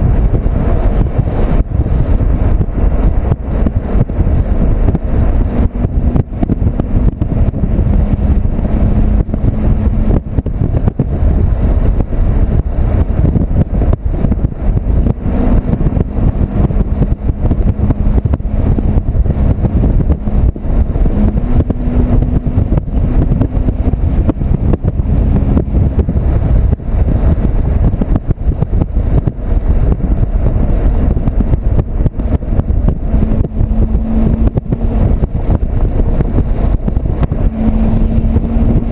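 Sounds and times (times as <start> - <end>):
car exhaust droning: 0.0 - 38.9
wind noise on microphone: 0.0 - 38.9.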